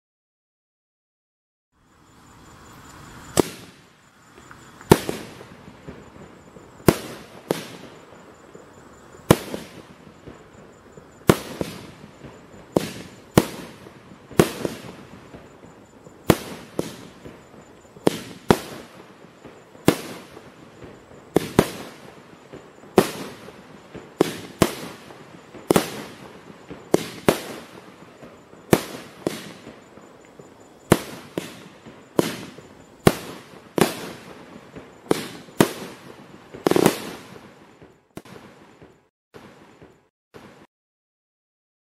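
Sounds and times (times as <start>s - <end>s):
fireworks bangs: 3.2s - 40.7s.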